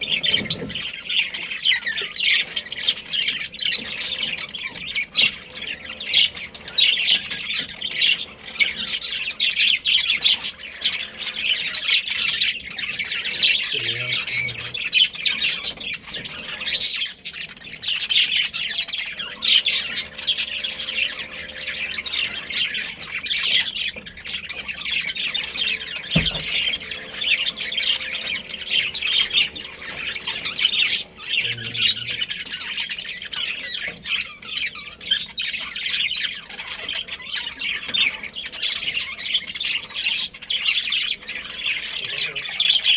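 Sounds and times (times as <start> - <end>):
budgerigars chattering and squawking: 0.0 - 42.9.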